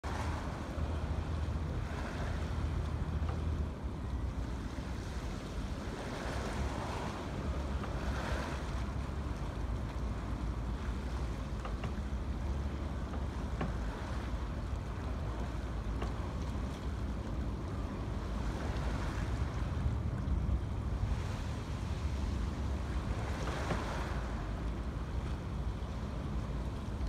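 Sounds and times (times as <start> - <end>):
water lapping against pilings: 0.0 - 27.0
wind rumble on microphone: 0.0 - 27.0.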